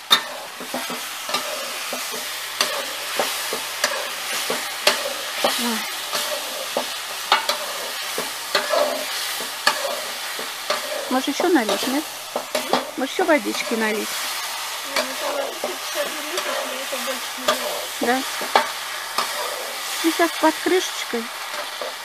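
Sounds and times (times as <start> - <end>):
utensil scraping a pot: 0.0 - 20.4
food sizzling: 0.0 - 22.0.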